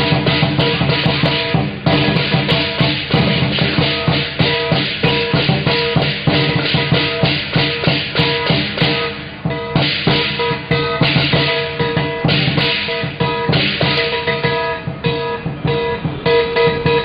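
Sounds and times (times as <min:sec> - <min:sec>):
cymbals clashing: 0:00.0 - 0:17.0
large drum beaten fast: 0:00.0 - 0:17.0.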